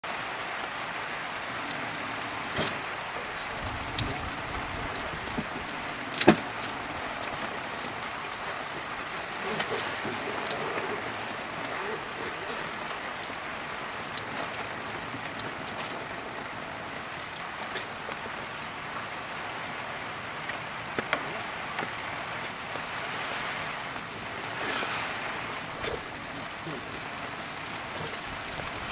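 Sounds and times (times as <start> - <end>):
steady rain falling: 0.0 - 28.9
raindrops ticking close by: 0.1 - 28.9.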